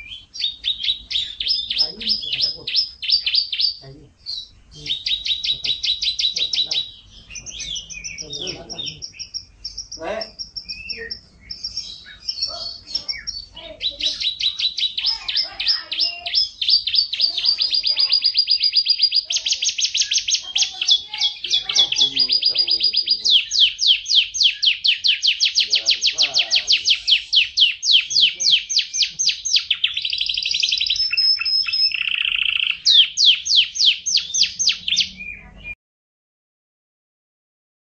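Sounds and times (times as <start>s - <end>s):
canary singing trills: 0.0s - 35.8s.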